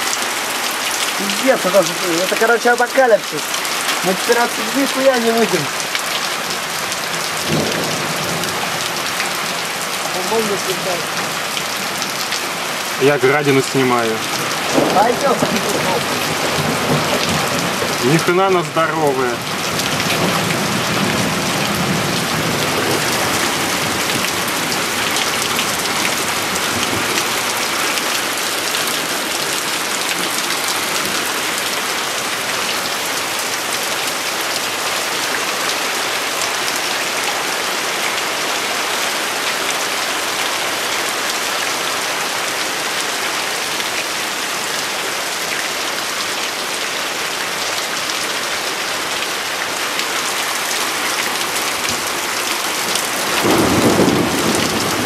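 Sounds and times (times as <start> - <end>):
heavy rain downpour: 0.0 - 55.0.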